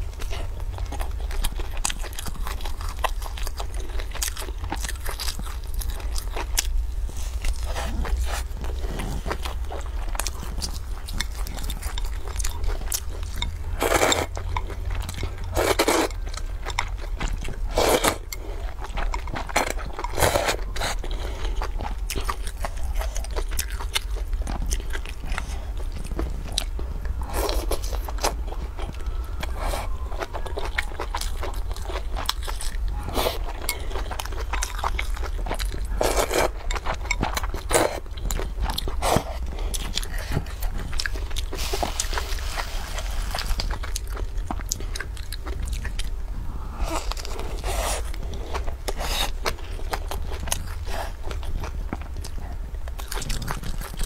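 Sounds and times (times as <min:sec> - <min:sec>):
crunchy biting and chewing: 0:00.0 - 0:54.0.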